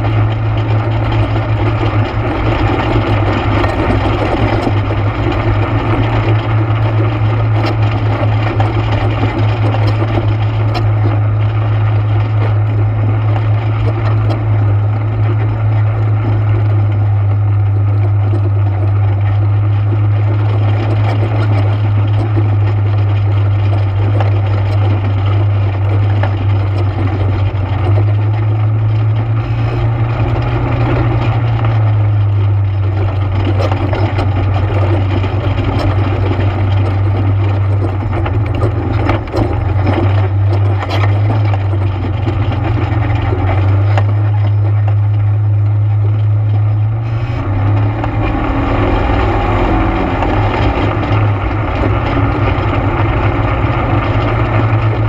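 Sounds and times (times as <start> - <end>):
atv engine running: 0.0 - 55.0
knocks and rattles: 0.0 - 55.0.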